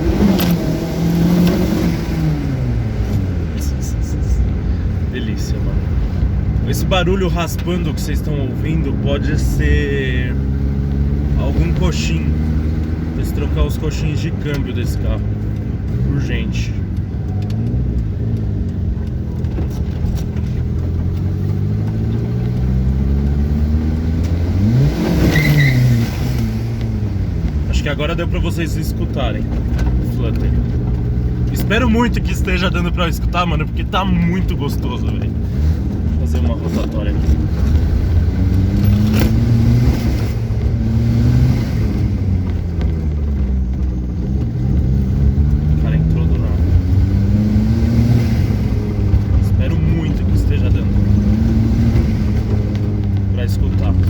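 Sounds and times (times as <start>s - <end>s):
car engine pulling under load: 0.0s - 54.0s.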